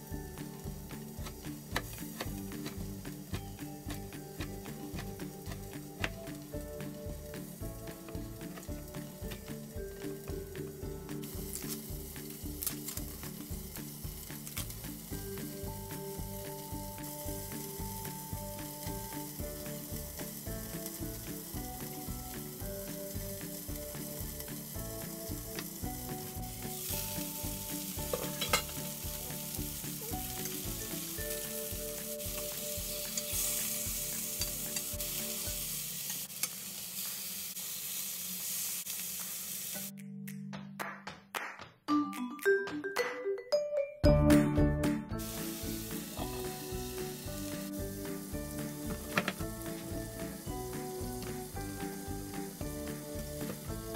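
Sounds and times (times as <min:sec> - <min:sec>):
background music with beat: 0:00.0 - 0:35.8, 0:39.8 - 0:53.9
food sizzling in a pan: 0:00.0 - 0:39.9, 0:45.2 - 0:53.9.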